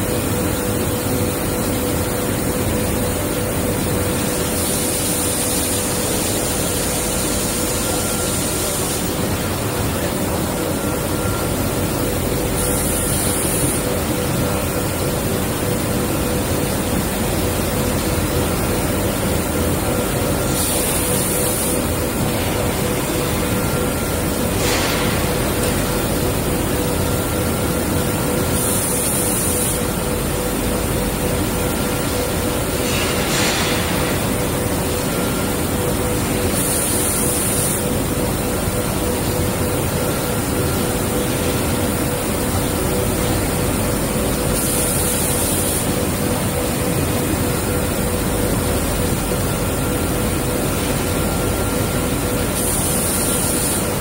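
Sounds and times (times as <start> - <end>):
constant hum tone: 0.0 - 54.0
spray booth machinery noise: 0.0 - 54.0.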